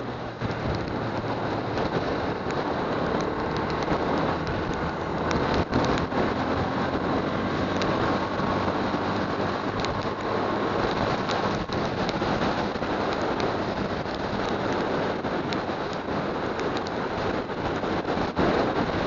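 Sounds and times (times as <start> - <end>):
motorcycle engine running: 0.0 - 16.3
wind and rain noise: 0.0 - 19.0.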